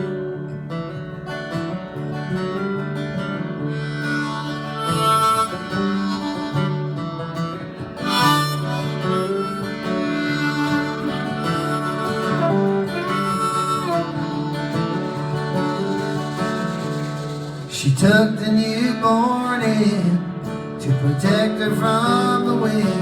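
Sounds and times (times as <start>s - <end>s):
harmonica melody: 0.0s - 18.4s, 19.2s - 23.0s
strummed acoustic guitar: 0.0s - 23.0s.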